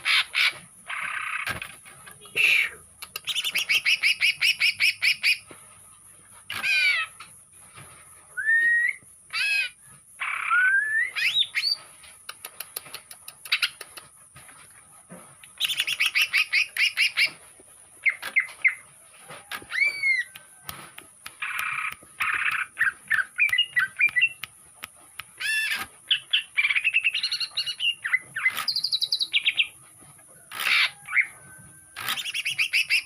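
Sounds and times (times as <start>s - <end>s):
songbird singing: 0.0s - 5.5s, 8.4s - 14.1s, 15.4s - 20.5s, 21.2s - 29.8s, 30.4s - 33.0s.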